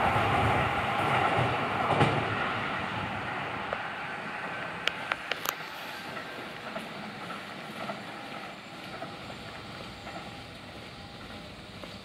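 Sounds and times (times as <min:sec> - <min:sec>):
electric train pulling away: 0:00.0 - 0:12.0.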